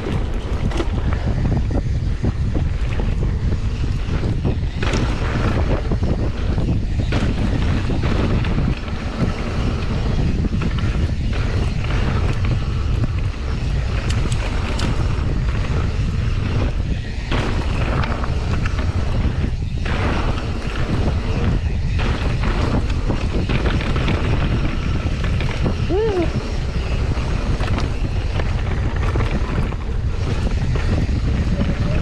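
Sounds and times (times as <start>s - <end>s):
bike clicks and rattles: 0.0s - 32.0s
tyres rumbling on dirt trail: 0.0s - 32.0s
wind buffeting microphone: 0.0s - 32.0s.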